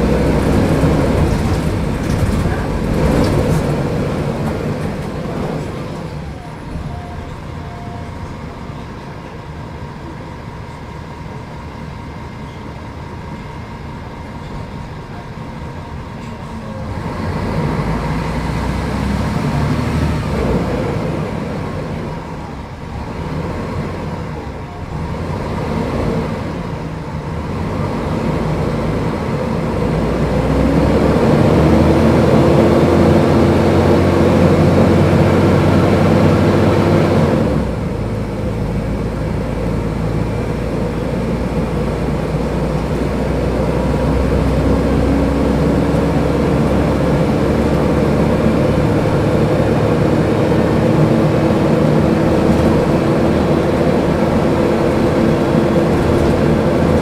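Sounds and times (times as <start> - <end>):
bus diesel engine revving: 0.0 - 12.2, 12.8 - 57.0.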